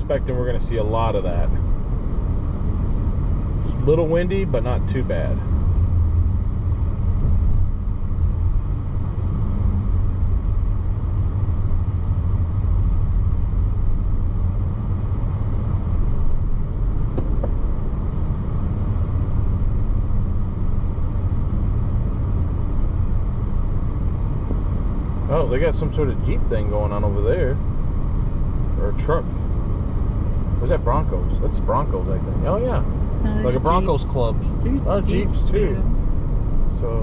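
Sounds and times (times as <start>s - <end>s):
car engine and tyre noise: 0.0s - 37.0s.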